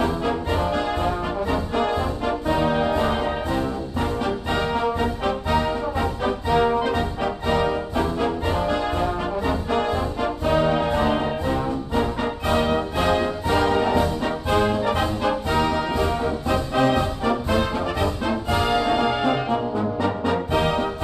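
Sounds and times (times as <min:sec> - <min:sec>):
brass and orchestra music: 0:00.0 - 0:21.0.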